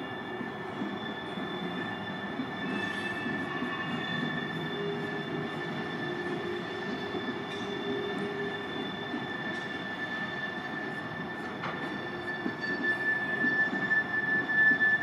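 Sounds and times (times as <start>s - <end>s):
train wheel flanges squealing: 0.0s - 15.0s
train wheels rumbling on rails: 0.0s - 15.0s.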